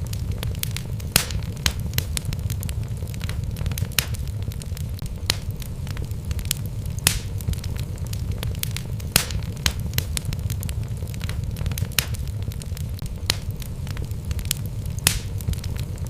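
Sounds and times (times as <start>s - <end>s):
burning wood crackling and popping: 0.0s - 16.0s
fire rumbling: 0.0s - 16.0s.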